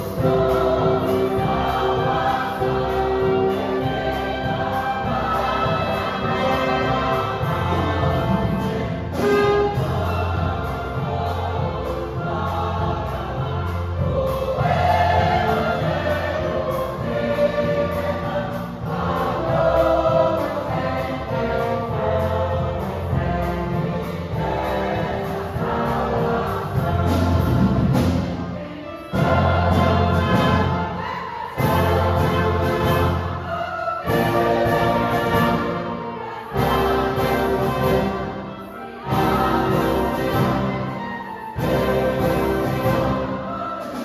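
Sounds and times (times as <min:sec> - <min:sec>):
choir singing a hymn: 0:00.0 - 0:44.0
orchestral accompaniment: 0:00.0 - 0:44.0.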